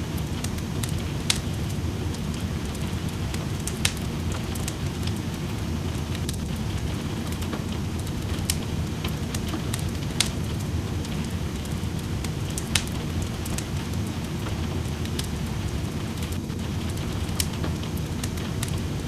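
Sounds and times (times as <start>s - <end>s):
rain: 0.0s - 19.0s
wood fire crackling and popping: 0.0s - 19.0s.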